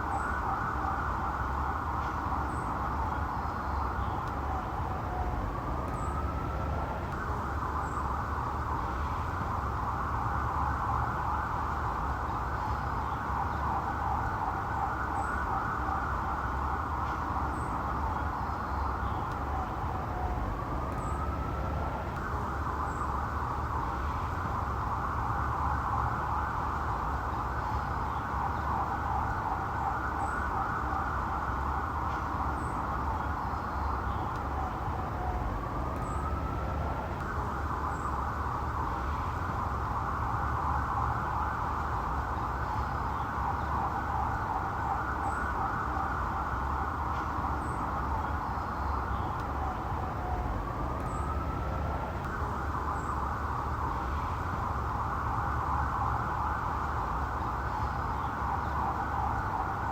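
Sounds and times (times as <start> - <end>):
low steady rumble: 0.0 - 59.9
police siren wailing and yelping: 0.0 - 59.9.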